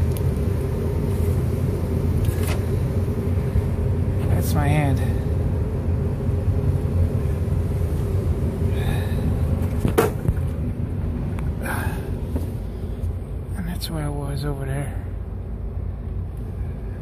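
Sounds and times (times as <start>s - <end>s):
constant hum: 0.0s - 17.0s
low rumble: 0.0s - 17.0s.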